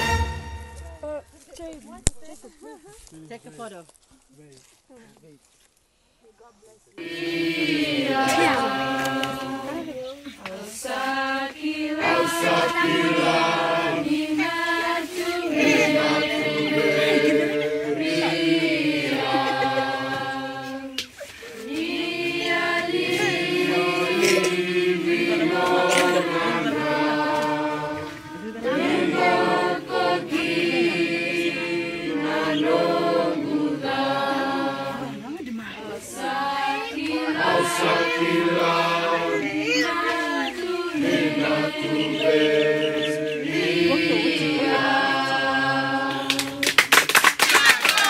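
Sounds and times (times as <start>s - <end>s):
group singing in harmony: 0.0s - 0.7s, 7.0s - 46.8s.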